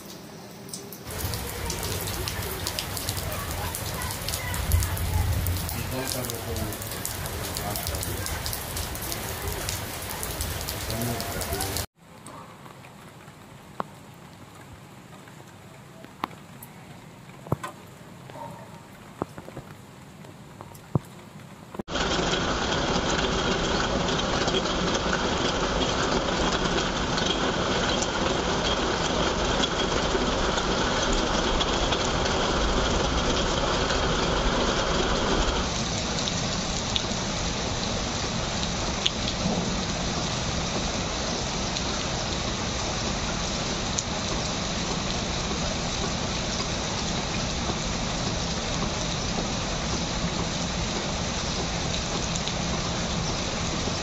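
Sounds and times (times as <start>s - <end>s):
rain on concrete rooftop: 0.0s - 54.0s
rain splashing into puddles: 0.0s - 54.0s.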